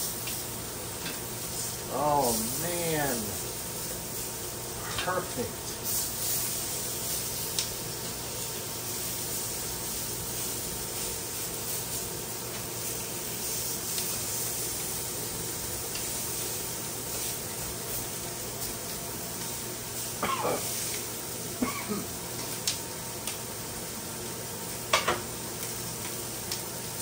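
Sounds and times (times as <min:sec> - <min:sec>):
chicken sizzling on a grill pan: 0:00.0 - 0:27.0.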